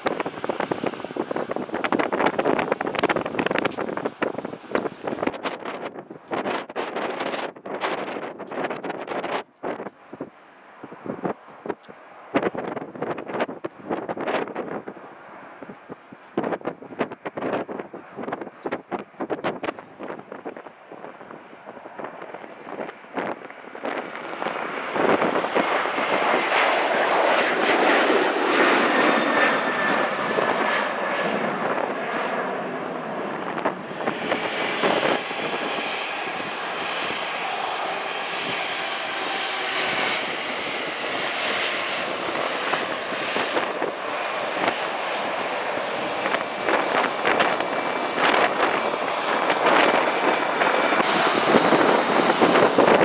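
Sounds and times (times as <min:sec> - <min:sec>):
jet engines running: 0:00.0 - 0:53.0.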